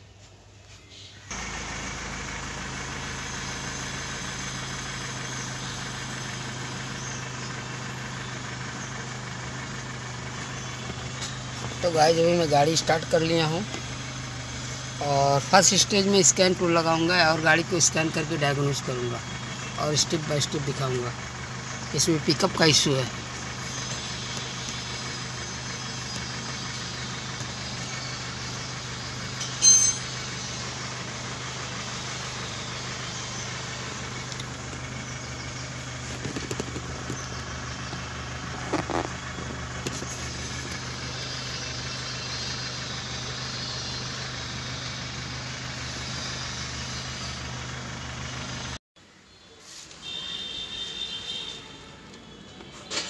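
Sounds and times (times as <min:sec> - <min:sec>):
car engine idling: 0:01.2 - 0:48.8.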